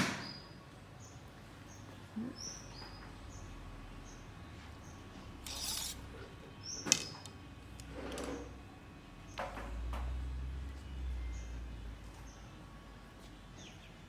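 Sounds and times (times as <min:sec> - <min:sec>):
small birds chirping: 0:00.1 - 0:08.6, 0:10.6 - 0:14.0.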